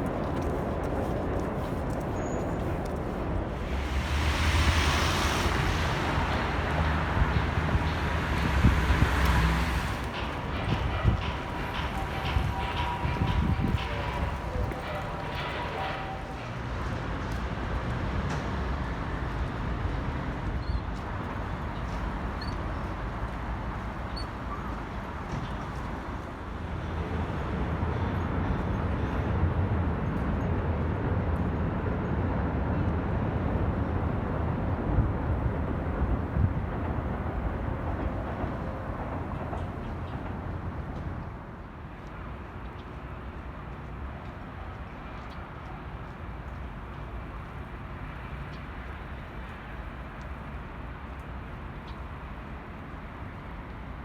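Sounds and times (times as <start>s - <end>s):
low traffic rumble: 0.0s - 54.0s.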